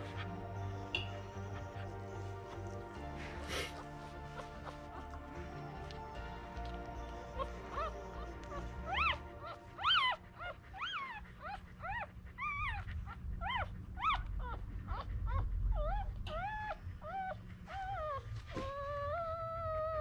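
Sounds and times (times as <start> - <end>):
puppies squeaking and whimpering: 0.0 - 20.0.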